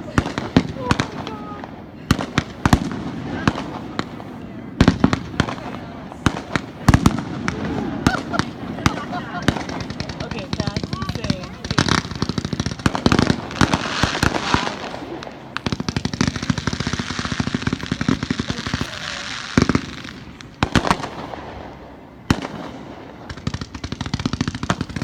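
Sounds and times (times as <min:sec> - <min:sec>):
firework shells booming: 0:00.0 - 0:25.0
fireworks crackling and popping: 0:00.0 - 0:25.0.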